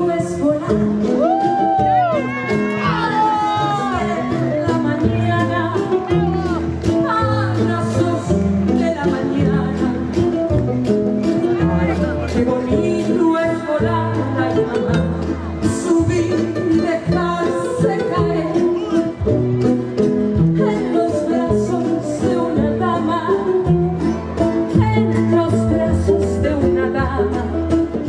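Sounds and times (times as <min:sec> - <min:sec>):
woman singing: 0:00.0 - 0:10.5, 0:11.5 - 0:19.1, 0:20.4 - 0:28.0
cajon drumming: 0:00.0 - 0:28.0
strummed small guitar: 0:00.0 - 0:28.0.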